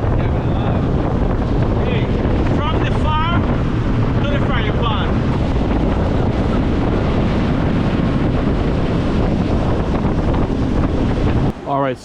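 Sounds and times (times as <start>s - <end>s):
motorboat engine running: 0.0s - 11.6s
wind buffeting microphone: 0.0s - 12.0s.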